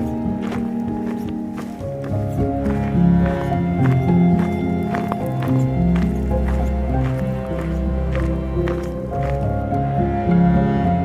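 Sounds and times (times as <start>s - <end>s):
background music with bass: 0.0s - 11.0s.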